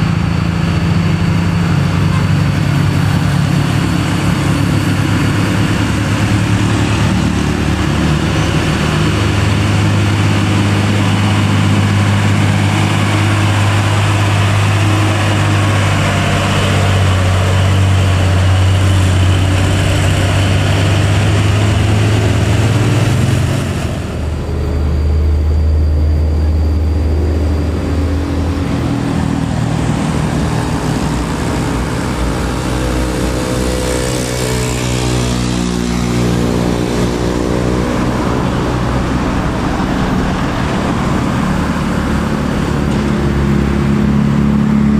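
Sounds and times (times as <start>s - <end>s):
heavy diesel truck engine drone: 0.0s - 44.9s.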